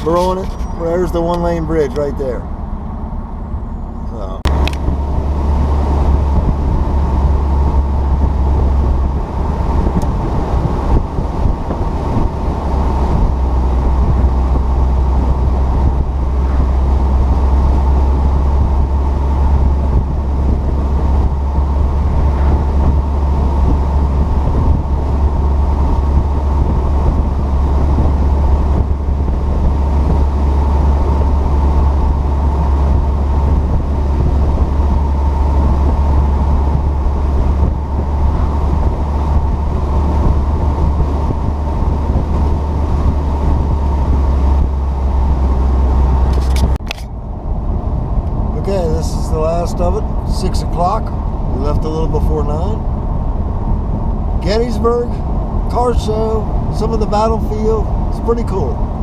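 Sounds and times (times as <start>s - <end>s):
car cruising rumble: 0.0s - 59.0s.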